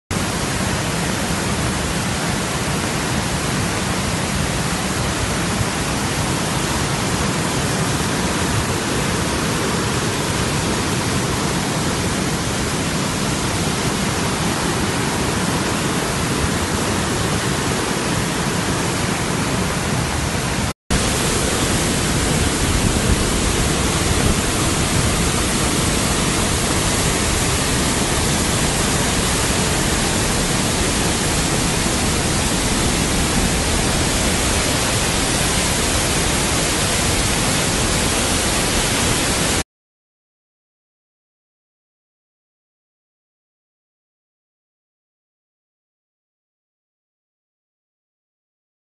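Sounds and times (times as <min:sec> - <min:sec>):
waterfall roaring: 0:00.1 - 0:39.6.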